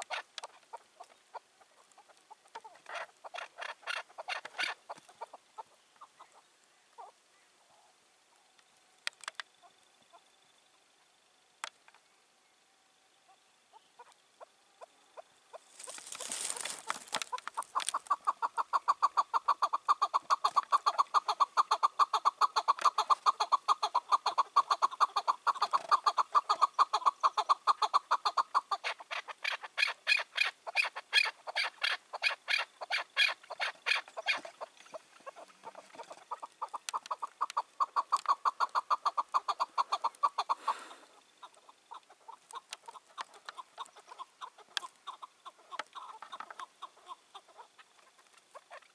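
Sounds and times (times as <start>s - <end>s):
partridge clucking calls: 0.0s - 7.2s, 13.3s - 48.9s.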